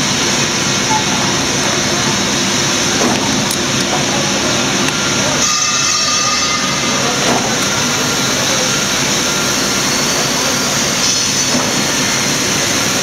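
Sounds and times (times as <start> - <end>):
loud mechanical din of machinery: 0.0 - 13.0.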